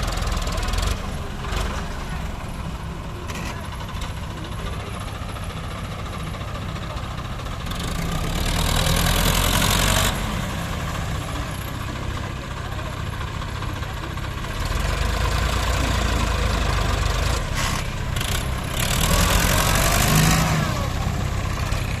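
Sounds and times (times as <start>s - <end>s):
diesel tractor engines running: 0.0s - 22.0s.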